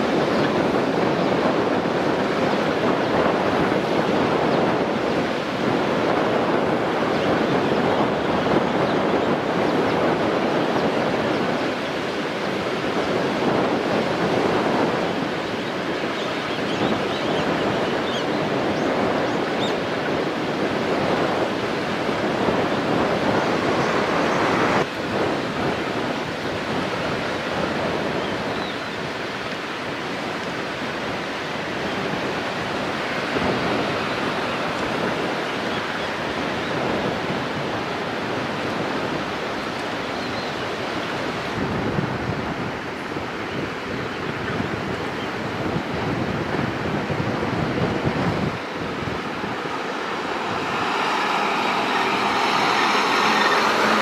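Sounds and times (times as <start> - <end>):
strong wind buffeting microphone: 0.0 - 54.0.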